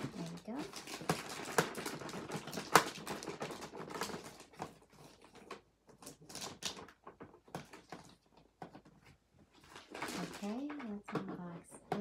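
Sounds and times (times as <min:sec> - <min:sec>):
plastic wrap crinkling: 0:00.0 - 0:11.1.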